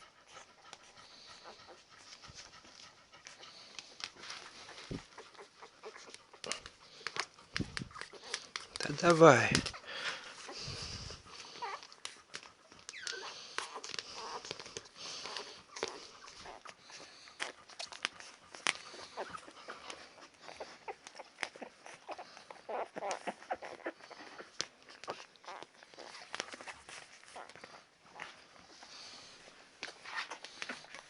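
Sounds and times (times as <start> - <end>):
puppies squeaking and whimpering: 0.0 - 31.0
small clicks and rustles: 0.0 - 31.0.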